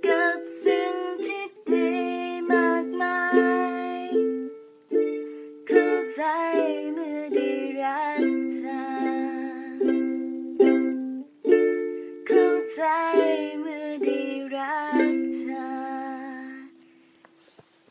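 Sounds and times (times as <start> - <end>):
strummed acoustic string instrument: 0.0 - 17.0.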